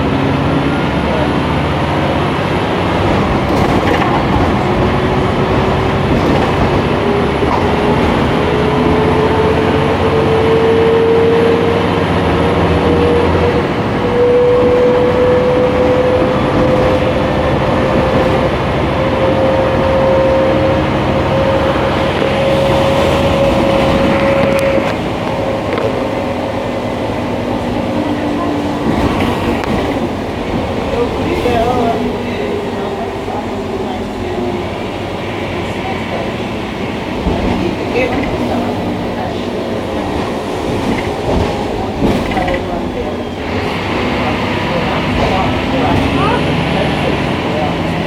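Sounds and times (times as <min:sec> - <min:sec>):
bus engine: 0:00.0 - 0:48.0
road noise: 0:00.0 - 0:48.0.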